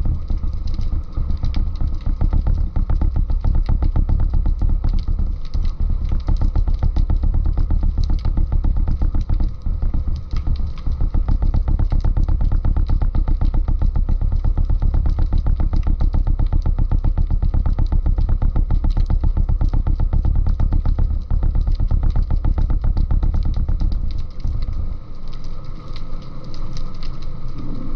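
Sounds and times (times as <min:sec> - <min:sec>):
boat motor heard underwater: 0:00.0 - 0:27.9.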